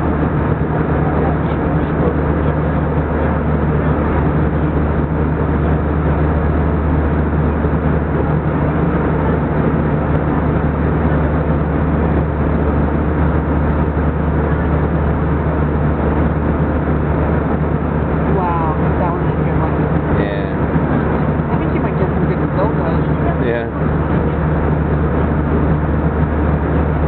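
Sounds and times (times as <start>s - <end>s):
jet airliner cabin drone: 0.0s - 27.0s.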